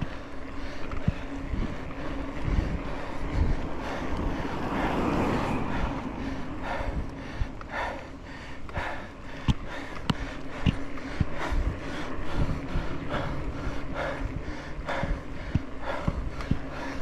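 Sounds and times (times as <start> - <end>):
bike clicks and rattles: 0.0 - 17.0
person breathing hard: 0.0 - 17.0
wind rumbling on microphone: 0.0 - 17.0.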